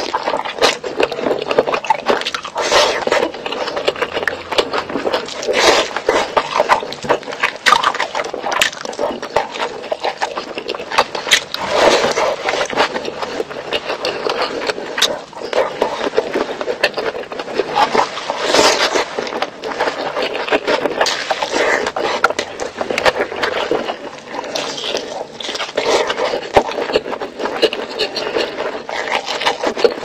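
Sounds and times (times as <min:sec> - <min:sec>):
wet chewing and lip smacking: 0:00.0 - 0:30.0.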